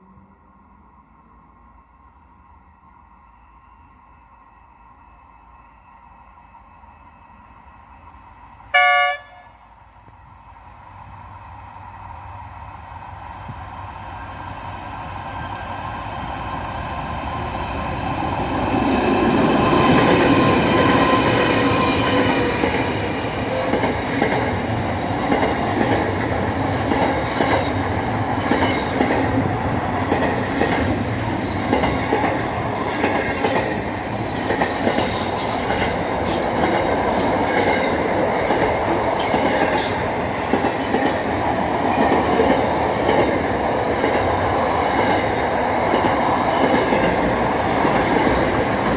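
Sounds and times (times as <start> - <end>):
train passing: 0.0 - 48.9.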